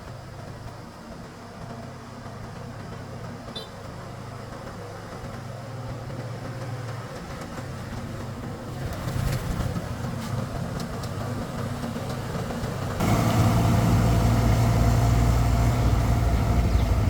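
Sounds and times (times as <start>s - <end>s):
engine running with low hum: 0.0s - 17.0s.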